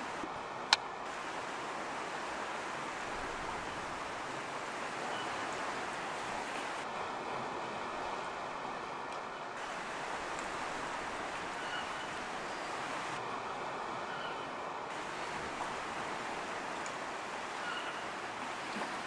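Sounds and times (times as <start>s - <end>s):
sea surf washing: 0.0s - 0.3s, 1.0s - 8.8s, 9.6s - 14.1s, 14.8s - 19.0s.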